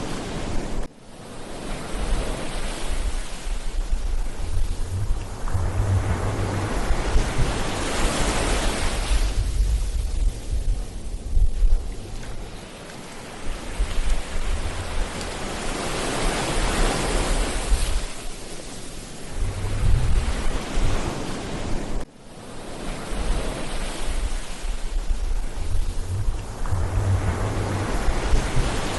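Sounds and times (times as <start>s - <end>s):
ocean surf washing in: 0.0s - 28.9s
wind rumbling on microphone: 0.0s - 28.9s.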